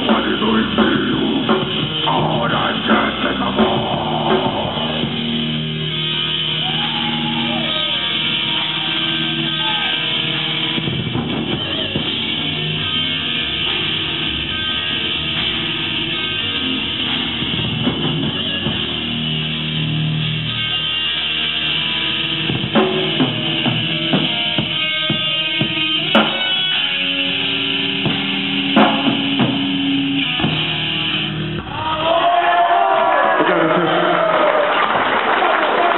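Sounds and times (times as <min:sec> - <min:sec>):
drum kit: 0:00.0 - 0:32.6
electric guitar: 0:00.0 - 0:35.9.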